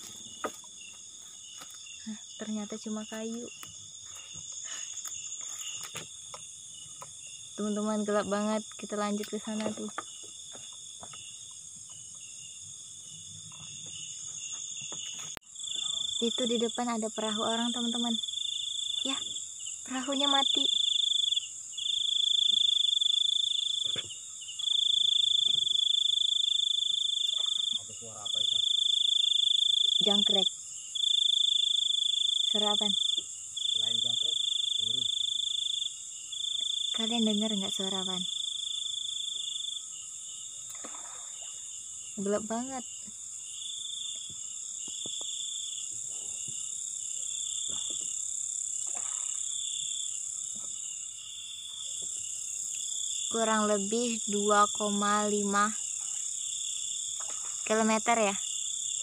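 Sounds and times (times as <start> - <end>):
crickets trilling: 0.0 - 59.0
insect hiss: 0.0 - 59.0.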